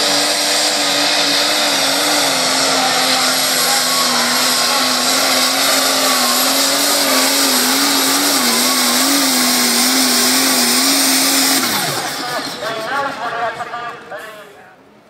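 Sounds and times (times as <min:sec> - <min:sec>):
tractor engine running flat out: 0:00.0 - 0:13.4.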